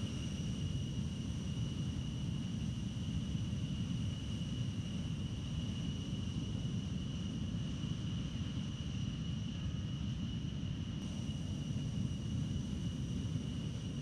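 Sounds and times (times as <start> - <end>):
high-pitched engine whine: 0.0 - 14.0
jet engines rumbling: 0.0 - 14.0.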